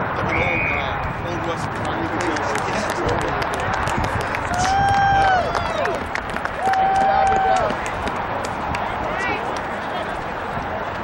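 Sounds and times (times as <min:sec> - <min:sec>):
spectators cheering and clapping: 0:01.8 - 0:11.0.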